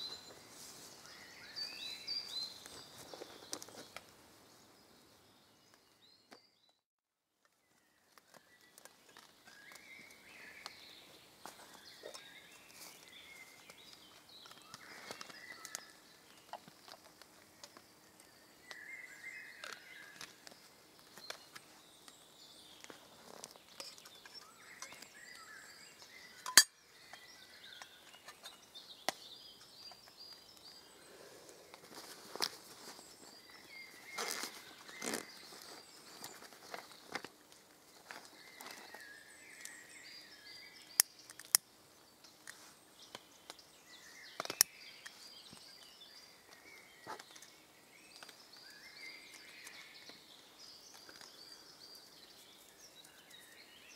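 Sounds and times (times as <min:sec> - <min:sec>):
birds singing and calling: 0:00.0 - 0:06.8, 0:07.6 - 0:53.9.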